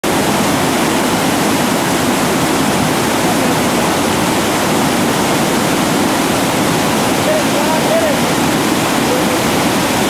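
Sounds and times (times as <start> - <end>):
river rapids rushing: 0.0 - 10.0.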